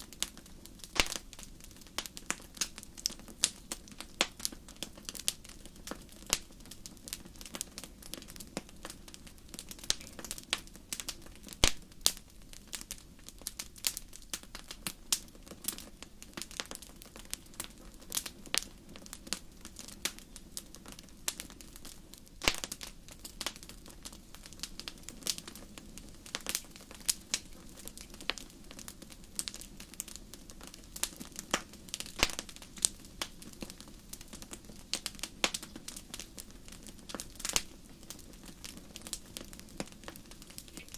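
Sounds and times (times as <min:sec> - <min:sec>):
low hiss: 0:00.0 - 0:40.9
wood fire crackling and popping: 0:00.0 - 0:40.9.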